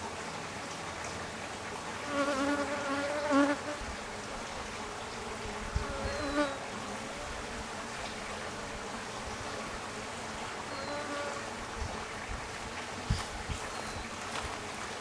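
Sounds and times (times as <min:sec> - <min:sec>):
bees buzzing: 0:01.9 - 0:15.0.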